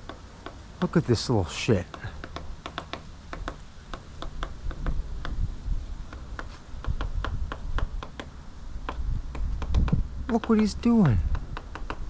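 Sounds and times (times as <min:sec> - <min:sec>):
woodpecker tapping on wood: 0:00.0 - 0:12.0.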